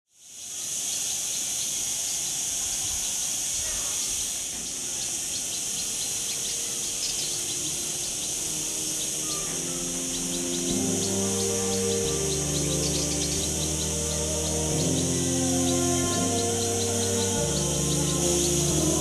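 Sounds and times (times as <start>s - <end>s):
high-pitched insect chorus: 0.1s - 19.0s
bird chirps: 0.3s - 19.0s.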